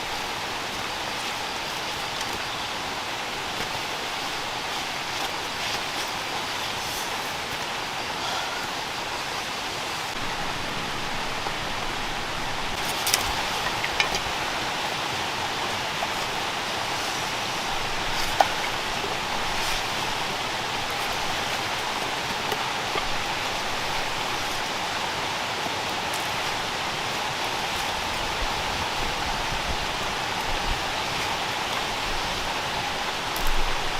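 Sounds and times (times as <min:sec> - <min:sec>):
steady rainfall: 0:00.0 - 0:33.9.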